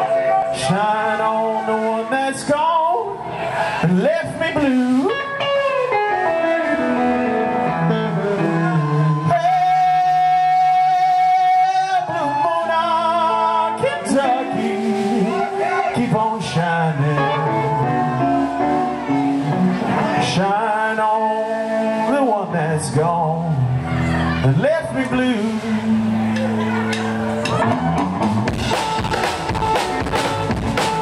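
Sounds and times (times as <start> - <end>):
man singing: 0.0 - 3.2, 3.8 - 26.7
drums: 0.0 - 31.0
electric guitar: 3.1 - 31.0
upright bass: 3.8 - 31.0.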